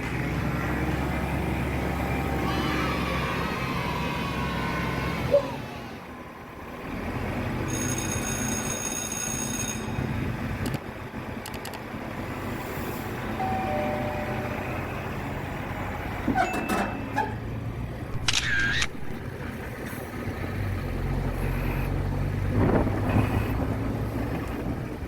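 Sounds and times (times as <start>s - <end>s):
truck engine humming: 0.0s - 25.0s.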